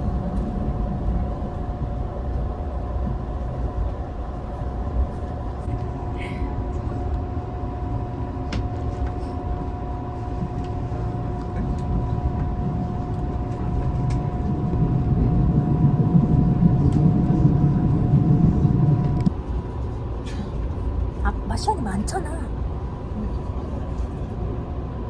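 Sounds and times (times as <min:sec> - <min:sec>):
steady train whine: 0:00.0 - 0:25.0
train rumble inside carriage: 0:00.0 - 0:25.0.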